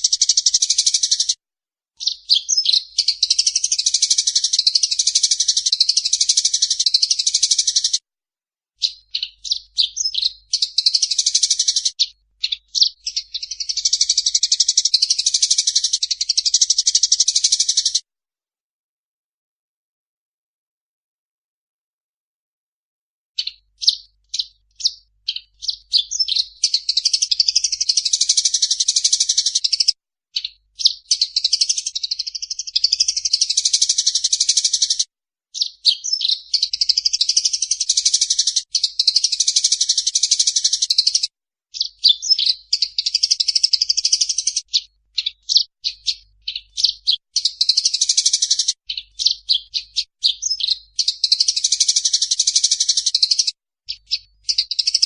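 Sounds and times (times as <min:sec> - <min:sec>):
sparrows chirping excitedly: 0:00.0 - 0:01.4, 0:02.0 - 0:08.0, 0:08.8 - 0:18.0, 0:23.4 - 0:55.0.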